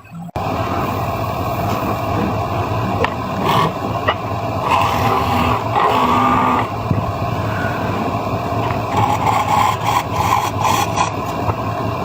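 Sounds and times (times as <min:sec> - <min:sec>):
wood lathe running: 0:00.4 - 0:12.0.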